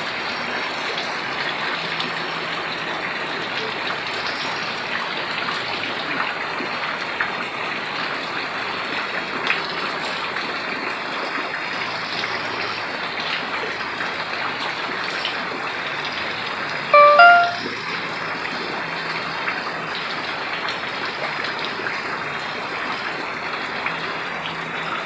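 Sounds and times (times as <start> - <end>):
water rushing along a drain: 0.0 - 17.0, 17.6 - 25.0.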